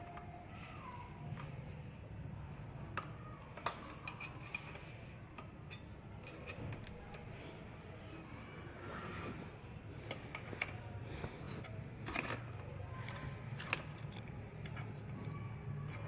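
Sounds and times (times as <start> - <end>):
plastic parts clicking: 2.9 - 16.0.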